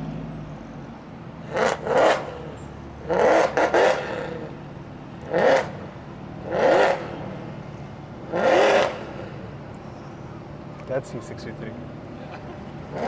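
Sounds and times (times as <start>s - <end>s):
car engines revving: 0.0s - 13.0s
engines idling: 0.0s - 13.0s.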